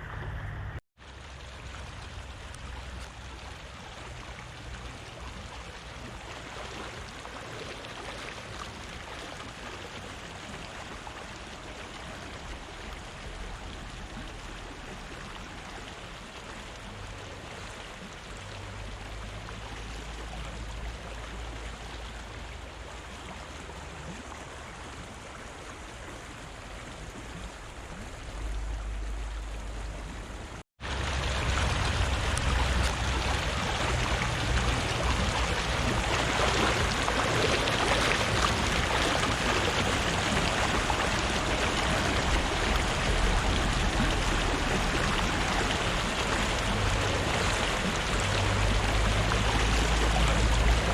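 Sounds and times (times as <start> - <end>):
river rushing: 1.1 - 50.9.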